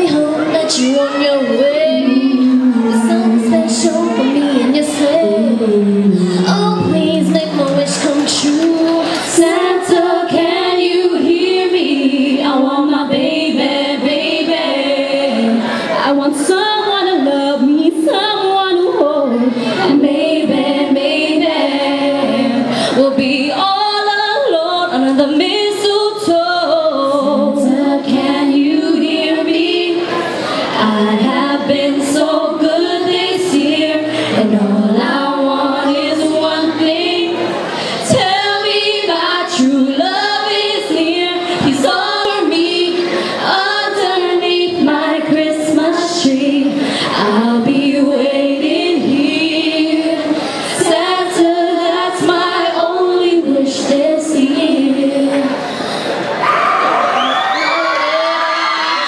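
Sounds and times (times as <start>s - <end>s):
girls singing pop song: 0.0s - 56.1s.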